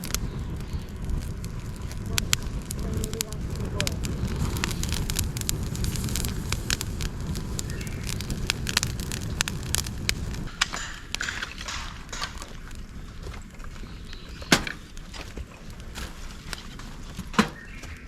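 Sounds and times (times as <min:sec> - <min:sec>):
campfire crackling and popping: 0:00.0 - 0:18.0
low fire rumble: 0:00.0 - 0:18.0.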